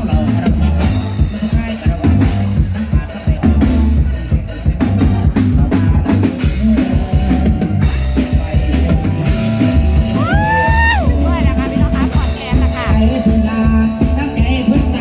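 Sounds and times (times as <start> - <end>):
bass line: 0.0 - 15.0
drum kit beat: 0.0 - 15.0.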